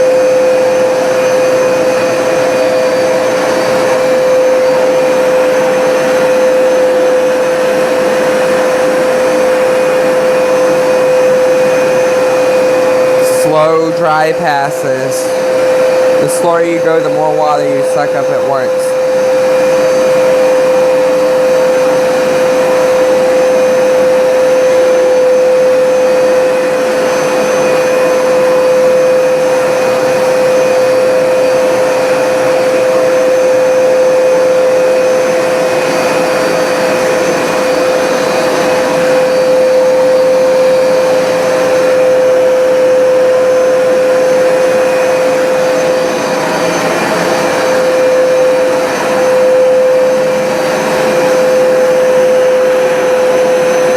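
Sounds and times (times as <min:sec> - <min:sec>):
carpet cleaner suction motor whine: 0:00.0 - 0:53.9.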